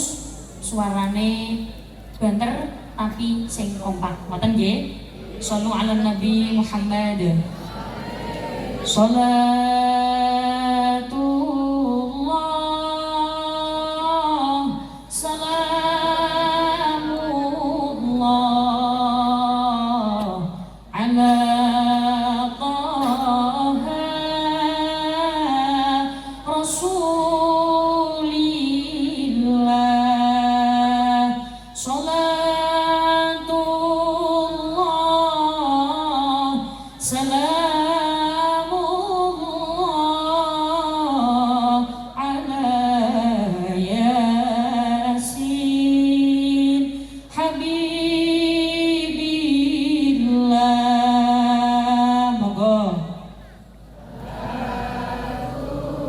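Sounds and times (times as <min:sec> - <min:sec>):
woman singing devotional song: 0:00.0 - 0:53.4.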